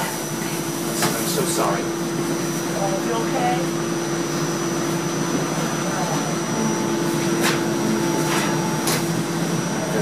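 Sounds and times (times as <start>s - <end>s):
ventilation blower hum: 0.0s - 10.0s.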